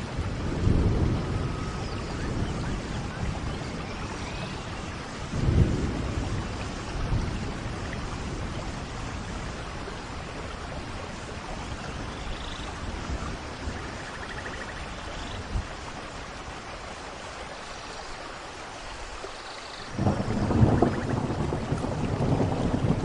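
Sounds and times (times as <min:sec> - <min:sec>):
low rumble of thunder: 0:00.0 - 0:16.0, 0:19.9 - 0:23.0
steady rain falling: 0:00.0 - 0:23.0.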